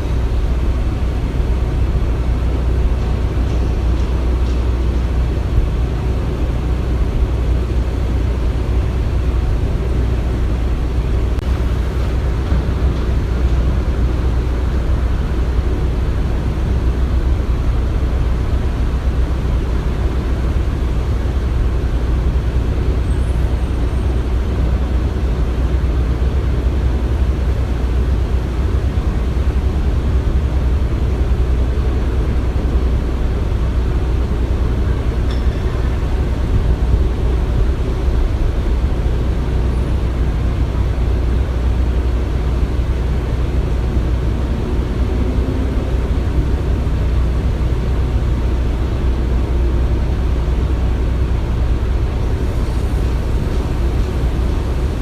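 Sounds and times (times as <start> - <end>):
heavy machinery engines rumbling: 0.0 - 55.0.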